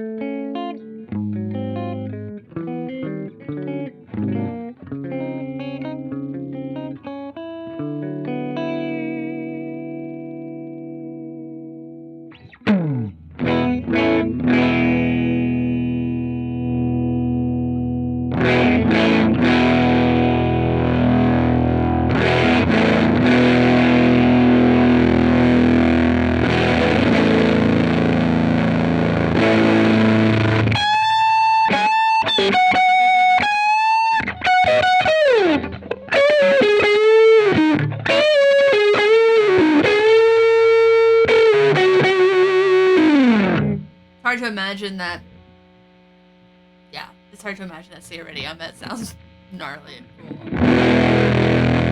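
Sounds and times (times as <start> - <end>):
distorted electric guitar: 0.0 - 51.9.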